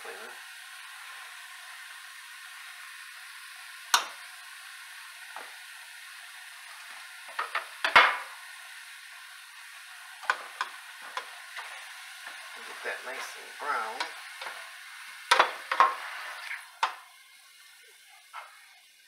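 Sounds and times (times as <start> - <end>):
meat sizzling in a pot: 0.0 - 19.0.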